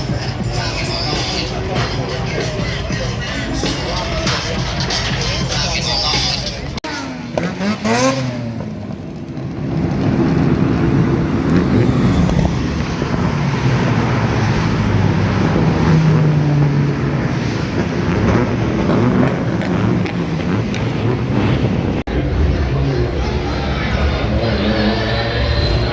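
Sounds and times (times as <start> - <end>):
car engine running: 0.0 - 25.9.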